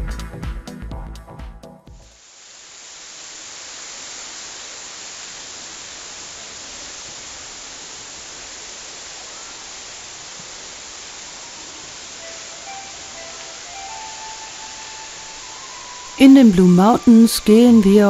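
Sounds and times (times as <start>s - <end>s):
water rushing: 3.0s - 18.0s.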